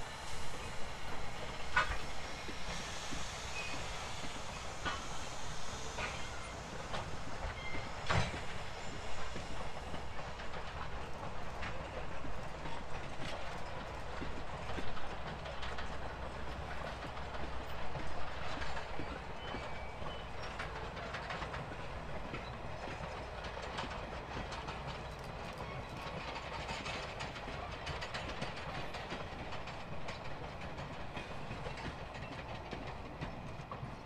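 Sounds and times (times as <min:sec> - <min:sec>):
train wheels clicking over joints: 0:00.0 - 0:34.0.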